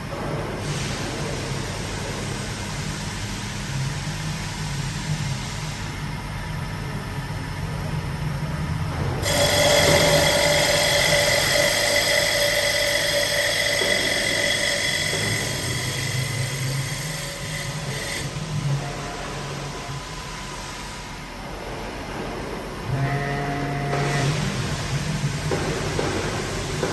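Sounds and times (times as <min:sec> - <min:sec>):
lathe whine and cutting hiss: 0:00.5 - 0:08.0, 0:09.2 - 0:22.9, 0:23.9 - 0:26.9.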